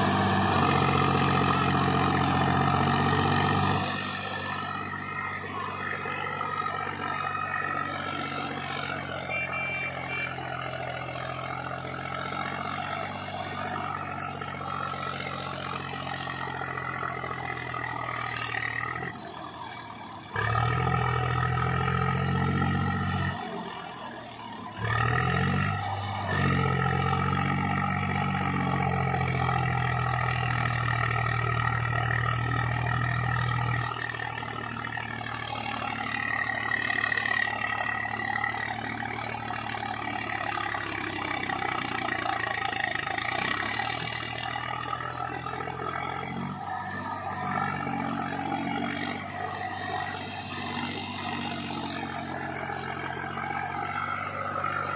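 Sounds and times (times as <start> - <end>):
tractor diesel engine revving: 0.0 - 54.9.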